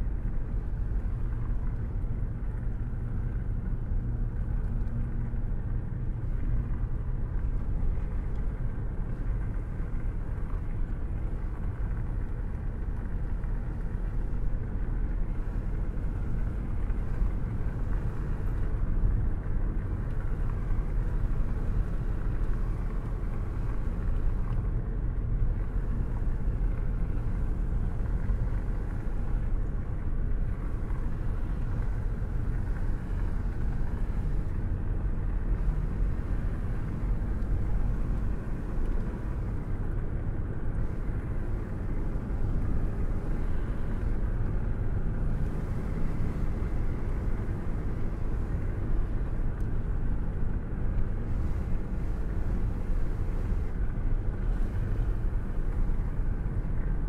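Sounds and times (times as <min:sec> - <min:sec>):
car interior road rumble: 0:00.0 - 0:57.0.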